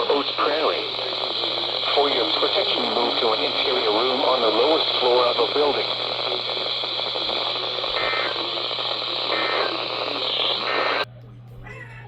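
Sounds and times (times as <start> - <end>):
faint data bursts: 0.0 - 11.1
radio static hiss: 0.0 - 11.1.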